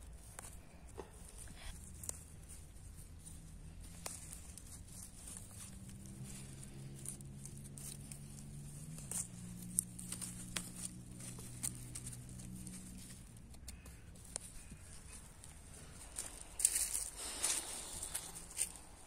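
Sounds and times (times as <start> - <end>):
clicks and rustles of greens: 0.0 - 19.0.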